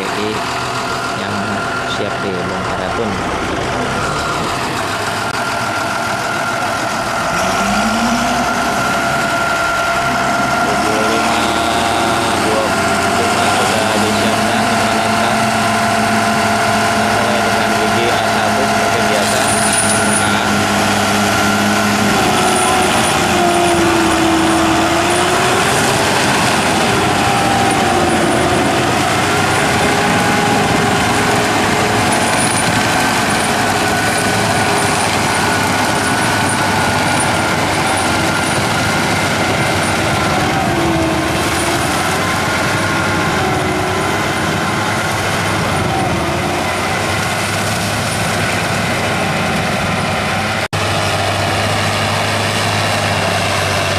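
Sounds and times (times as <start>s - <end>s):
tractor diesel engine under load: 0.0s - 53.9s.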